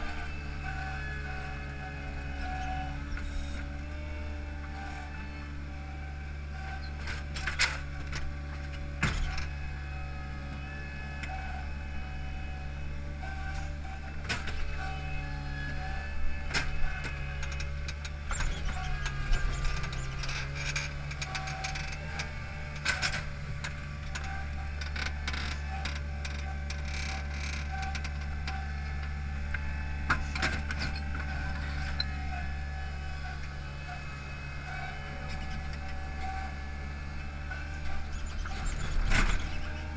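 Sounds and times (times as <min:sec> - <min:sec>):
paving machine engine running: 0:00.0 - 0:39.9.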